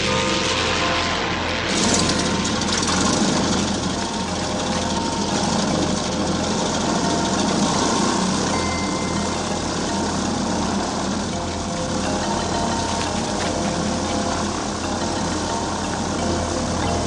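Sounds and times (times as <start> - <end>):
propeller aircraft engine idling: 0.0 - 17.0.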